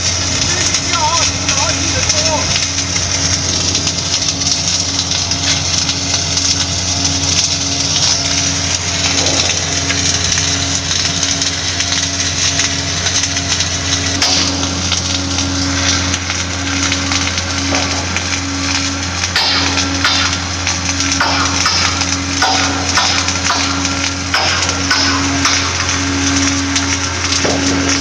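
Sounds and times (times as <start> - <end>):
low machine hum: 0.0 - 28.0
welding arc crackle: 0.0 - 28.0.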